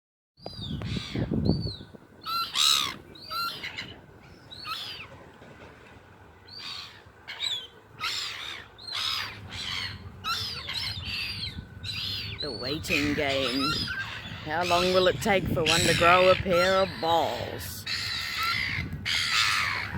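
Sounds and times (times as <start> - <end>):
seagulls squawking: 0.8 - 5.3, 6.4 - 19.9.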